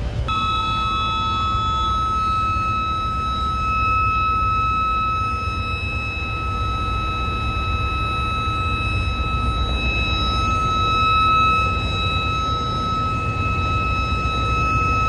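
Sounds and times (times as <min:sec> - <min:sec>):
generator engines running: 0:00.0 - 0:15.0
alarm buzzer high tone: 0:00.3 - 0:15.0.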